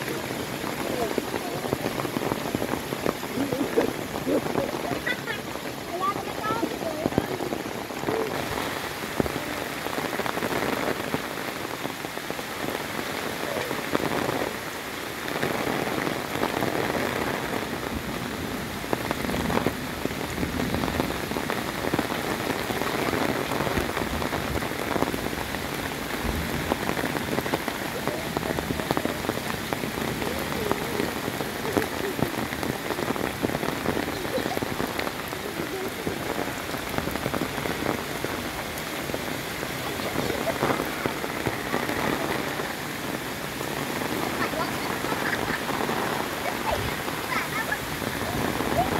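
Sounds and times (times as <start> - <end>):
heavy rain on foliage: 0.0 - 48.9.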